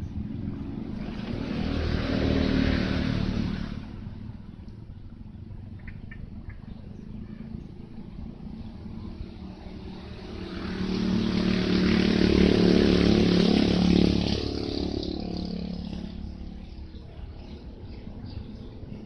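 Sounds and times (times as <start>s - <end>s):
engine passing by: 0.0s - 19.0s.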